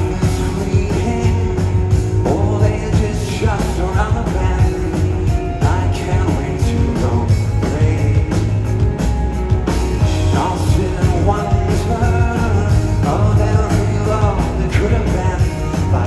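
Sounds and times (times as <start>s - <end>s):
person singing: 0.0s - 8.9s, 10.0s - 16.0s
live rock band playing: 0.0s - 16.0s.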